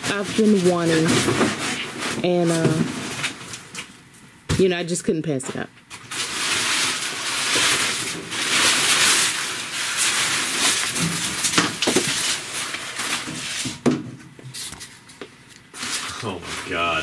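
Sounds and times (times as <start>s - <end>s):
paper and cardboard rustling: 0.0s - 3.8s, 5.9s - 17.0s.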